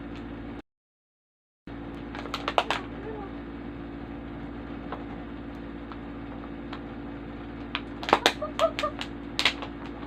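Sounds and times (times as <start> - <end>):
low hum: 1.7 - 10.0.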